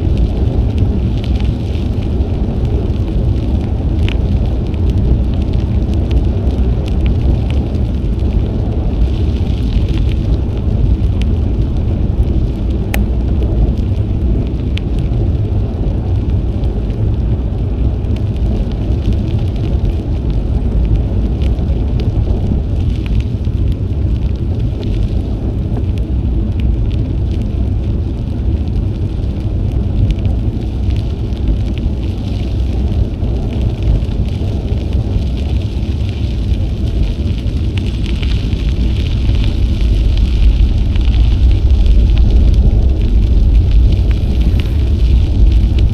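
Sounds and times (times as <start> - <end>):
bicycle tyres crackling on trail: 0.0 - 45.9
wind rumble on microphone: 0.0 - 45.9.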